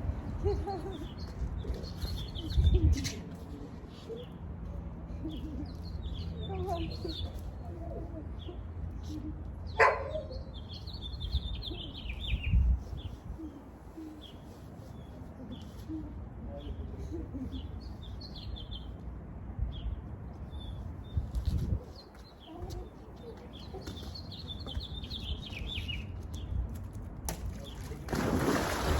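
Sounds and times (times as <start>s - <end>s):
small birds chirping: 0.6s - 4.4s, 5.2s - 19.0s, 19.7s - 26.7s.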